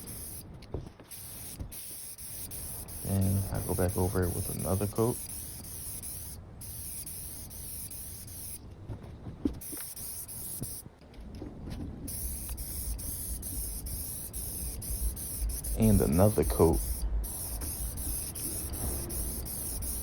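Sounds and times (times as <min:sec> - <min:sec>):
spray paint hissing: 0:00.0 - 0:00.4, 0:01.0 - 0:08.6, 0:09.6 - 0:10.9, 0:12.1 - 0:20.0.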